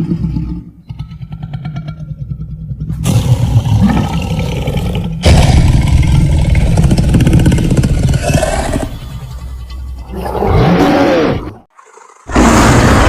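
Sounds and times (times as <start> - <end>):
big cat growling and snarling: 0.0 - 8.9, 10.1 - 13.0.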